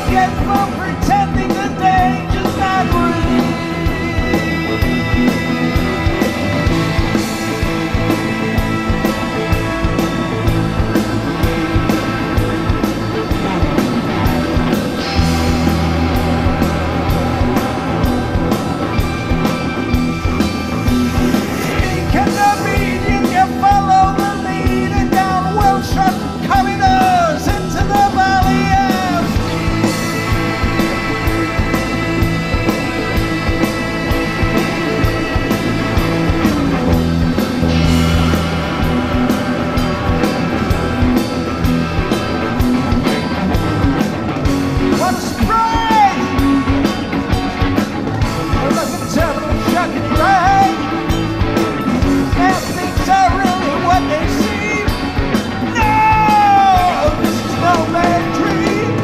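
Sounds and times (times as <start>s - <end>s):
rock music with singing: 0.0s - 59.0s.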